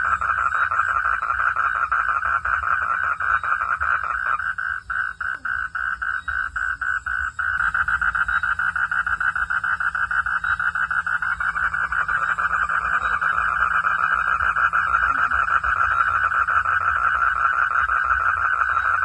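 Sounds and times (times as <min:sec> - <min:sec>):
frogs calling: 0:00.0 - 0:19.0.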